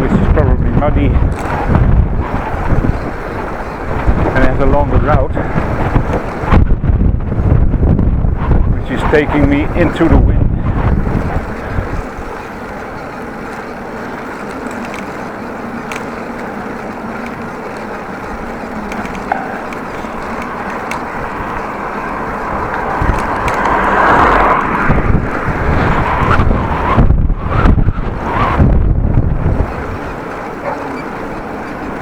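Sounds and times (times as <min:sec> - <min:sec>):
bicycle tyres rolling on road: 0:00.0 - 0:32.0
wind buffeting microphone: 0:00.0 - 0:32.0.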